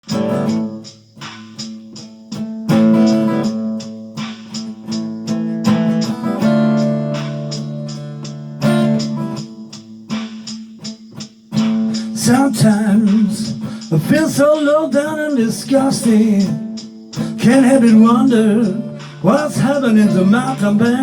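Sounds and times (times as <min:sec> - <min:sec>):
guitar strumming chords: 0:00.0 - 0:21.0.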